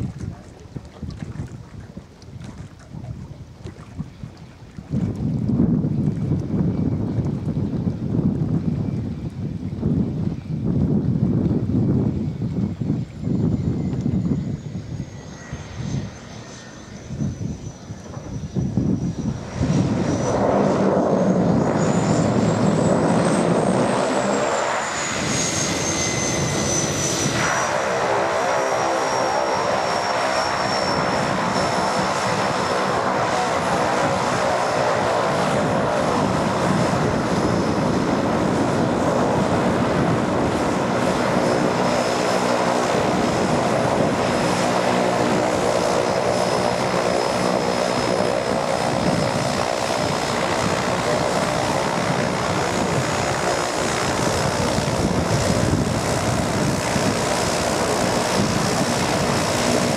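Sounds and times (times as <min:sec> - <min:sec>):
propeller drone: 0:00.0 - 0:59.9
turboprop turbine whine: 0:00.0 - 0:59.9.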